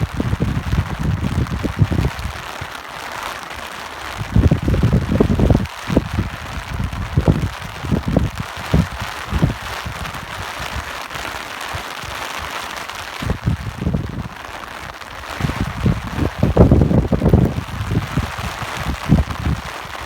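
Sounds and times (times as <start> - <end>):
gusts of wind: 0.0 - 2.9, 3.6 - 20.0
steady rain hiss: 0.0 - 20.0.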